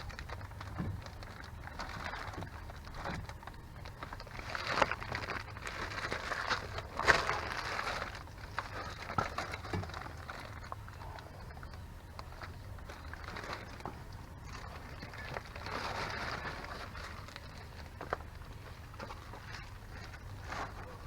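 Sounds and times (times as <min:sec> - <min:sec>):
steady low hum: 0:00.0 - 0:21.0
scraping and rustling: 0:00.1 - 0:11.2, 0:12.2 - 0:21.0.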